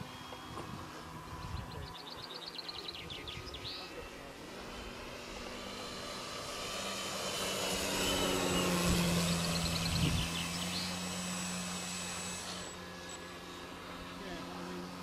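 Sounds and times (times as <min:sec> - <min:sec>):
model plane motor whining: 0:00.0 - 0:15.0.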